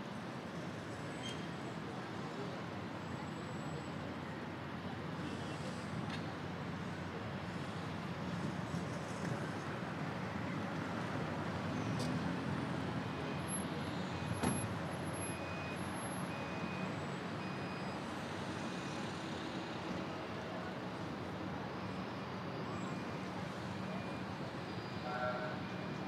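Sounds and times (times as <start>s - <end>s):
city traffic passing: 0.0s - 26.0s.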